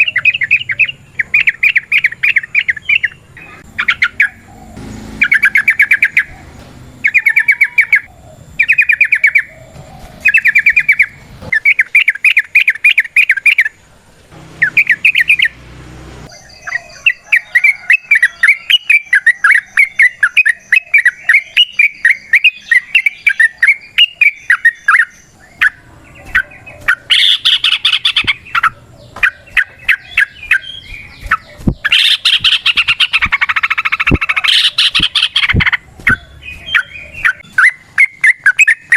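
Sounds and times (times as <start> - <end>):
bird singing bubbling notes: 0.0 - 13.8, 14.4 - 38.9
bird chattering song: 0.0 - 15.7, 16.3 - 38.9.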